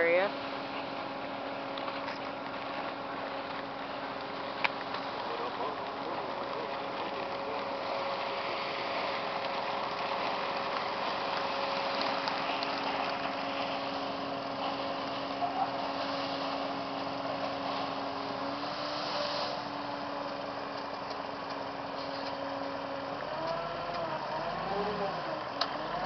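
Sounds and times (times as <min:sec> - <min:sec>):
construction machine engine idling: 0:00.1 - 0:26.0.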